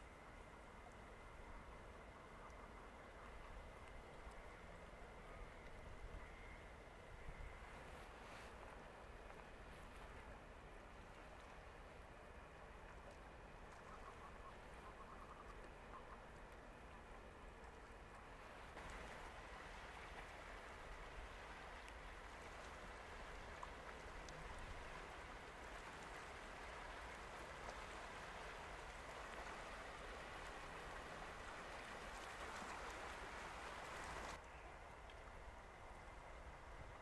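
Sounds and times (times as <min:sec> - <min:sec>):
faint rushing water: 0:00.0 - 0:37.0.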